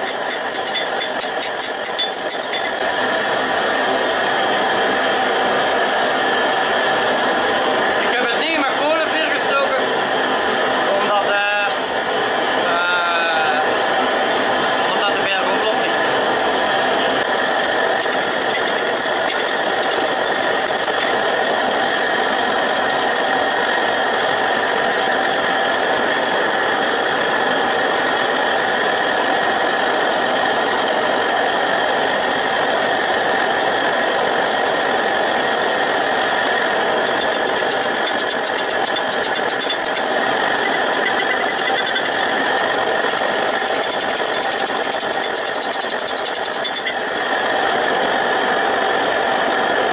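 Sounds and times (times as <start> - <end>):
forge rushing with hum: 0.0 - 49.8.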